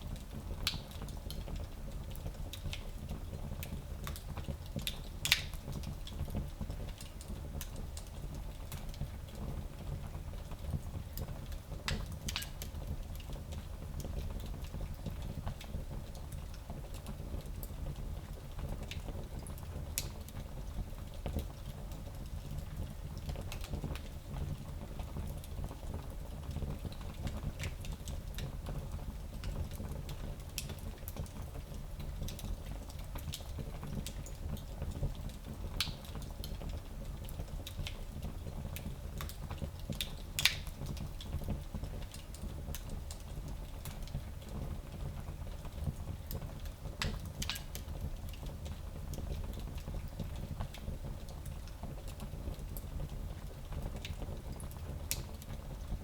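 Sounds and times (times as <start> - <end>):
fire crackling and popping: 0.1 - 9.4, 10.4 - 56.0.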